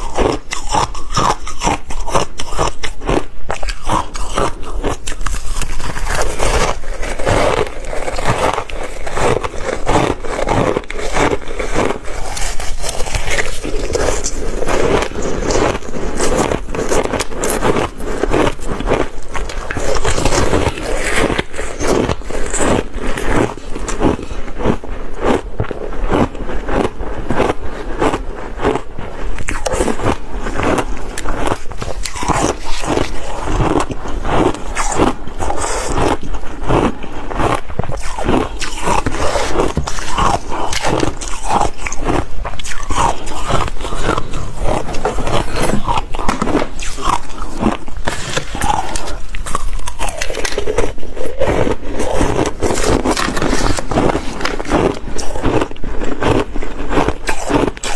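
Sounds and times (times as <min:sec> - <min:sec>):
ice crunching being chewed: 0:00.0 - 0:57.9.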